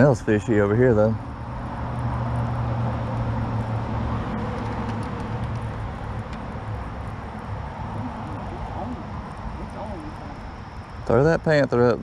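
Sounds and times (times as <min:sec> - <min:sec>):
low motor hum: 0:00.0 - 0:11.3.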